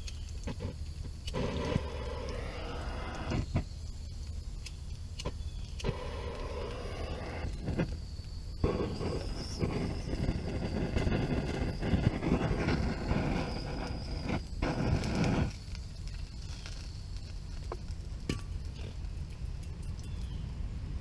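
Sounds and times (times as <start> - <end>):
torch flame hissing: 0.0 - 19.5
faint fire crackles: 0.0 - 21.0.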